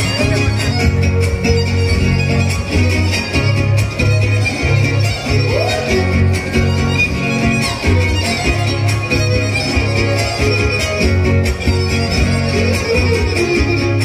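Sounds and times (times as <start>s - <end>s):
guitars strumming: 0.0s - 14.0s
violin melody: 0.0s - 14.0s.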